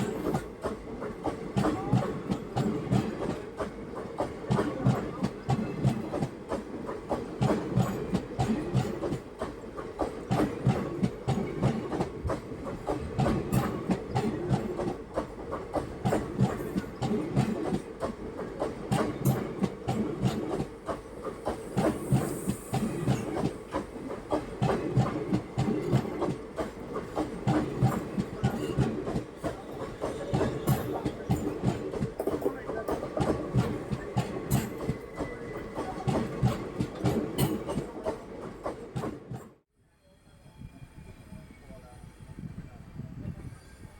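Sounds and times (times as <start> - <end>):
train rumble: 0.0 - 39.6
train wheels clattering: 0.0 - 39.6.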